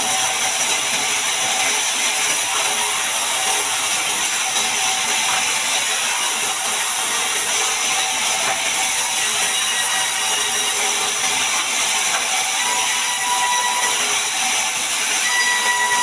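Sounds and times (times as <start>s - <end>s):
bandsaw cutting log: 0.0s - 16.0s.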